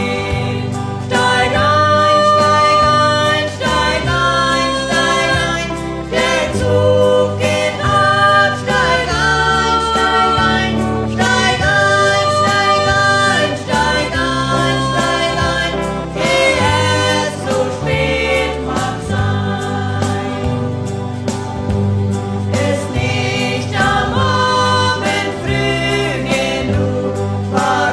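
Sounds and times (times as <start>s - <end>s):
two people singing: 0.0s - 21.3s, 22.4s - 27.9s
instrumental backing with bass: 0.0s - 27.9s.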